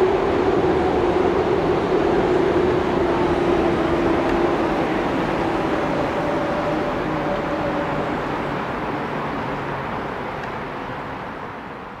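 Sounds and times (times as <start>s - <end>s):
electric train rumbling over bridge: 0.0s - 12.0s.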